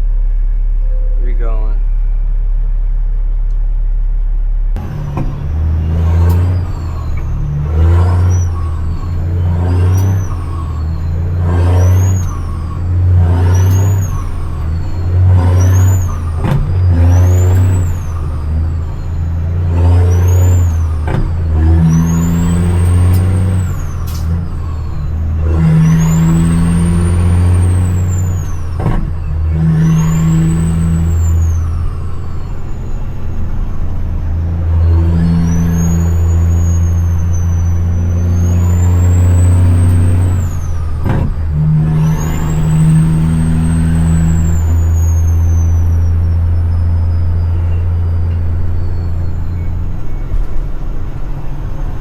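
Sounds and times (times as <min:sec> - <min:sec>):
truck engine drone: 0:00.0 - 0:52.0
turbo whistle: 0:04.8 - 0:34.0, 0:34.6 - 0:50.5.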